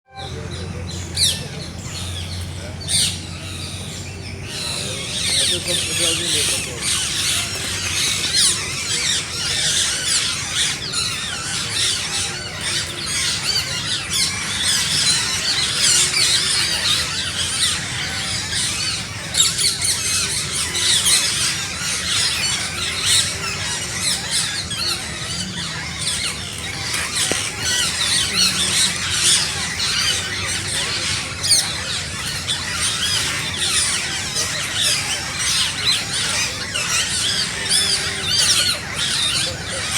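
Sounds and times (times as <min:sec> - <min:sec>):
parrots chirping and calling: 0:00.1 - 0:39.9.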